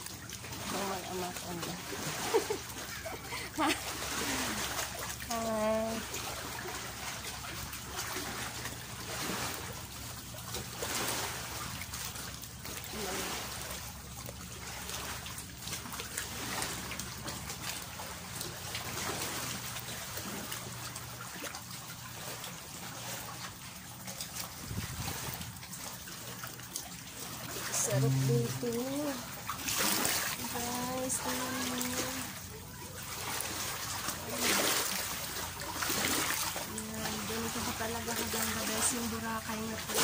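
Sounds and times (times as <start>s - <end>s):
waves lapping against rocks: 0.0s - 40.0s.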